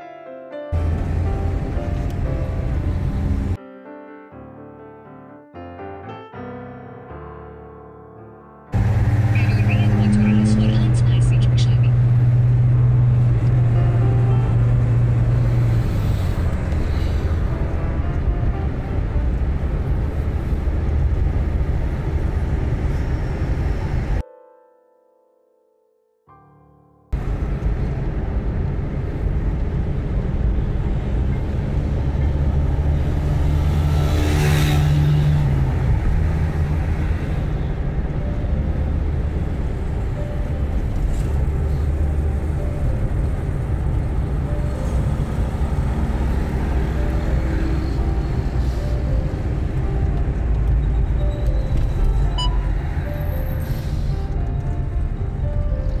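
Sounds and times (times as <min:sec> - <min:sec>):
soft background music: 0:00.5 - 0:22.2, 0:24.2 - 0:56.0
car engine and road noise: 0:00.7 - 0:03.6, 0:08.7 - 0:24.2, 0:27.1 - 0:56.0.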